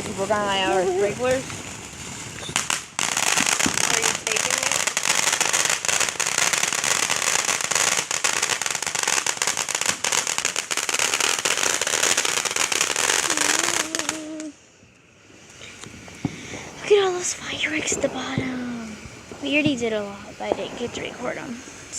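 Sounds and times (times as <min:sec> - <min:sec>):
ground fireworks crackling: 0:00.0 - 0:21.9.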